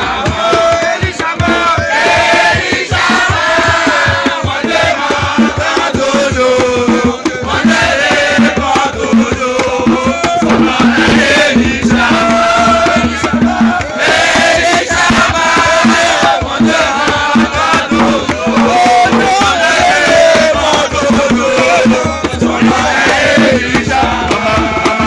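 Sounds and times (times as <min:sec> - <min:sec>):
crowd singing and chanting: 0:00.0 - 0:25.0
rapid percussion: 0:00.0 - 0:25.0.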